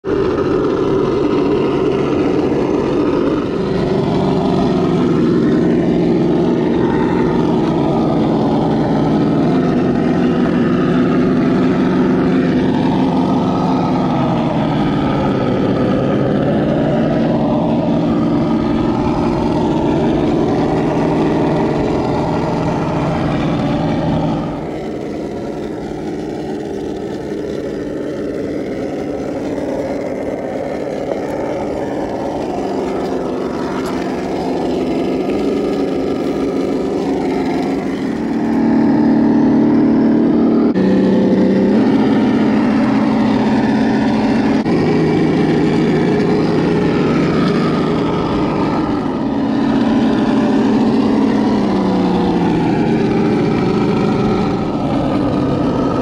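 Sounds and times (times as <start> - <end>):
simulated engine sound: 0.0 - 56.0.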